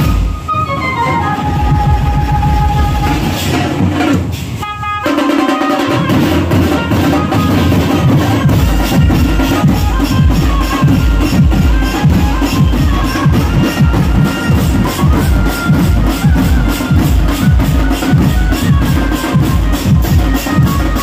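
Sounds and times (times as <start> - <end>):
band melody line: 0.0 - 21.0.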